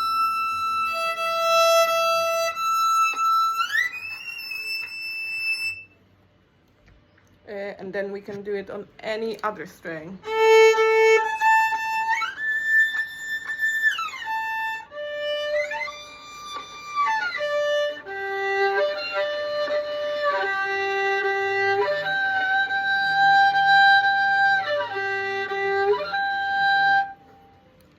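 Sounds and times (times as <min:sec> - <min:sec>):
violin gliding to harmonics: 0:00.0 - 0:06.0, 0:10.2 - 0:27.9.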